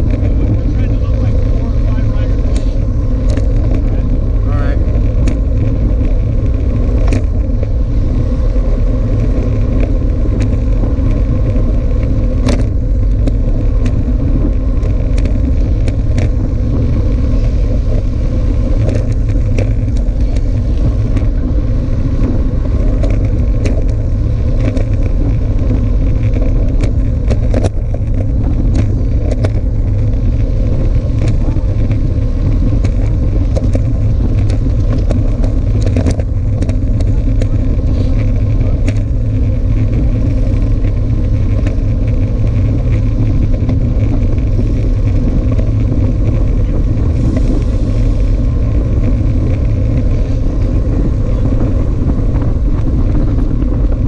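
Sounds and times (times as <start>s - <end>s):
bike tyres on asphalt: 0.0s - 54.0s
wind rumble on microphone: 0.0s - 54.0s.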